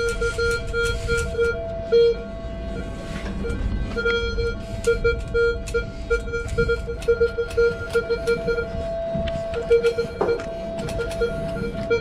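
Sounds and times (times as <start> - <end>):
metal detector beeping: 0.0 - 12.0.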